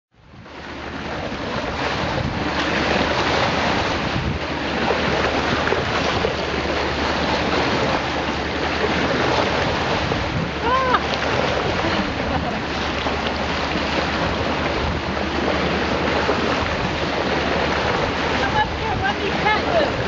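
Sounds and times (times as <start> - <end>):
low engine hum: 0.1 - 20.0
water rushing and splashing: 0.2 - 20.0
wind buffeting microphone: 0.2 - 20.0.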